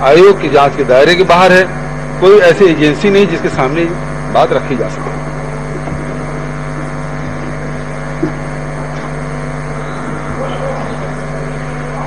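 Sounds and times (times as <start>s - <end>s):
machine-like hum: 0.0s - 12.0s.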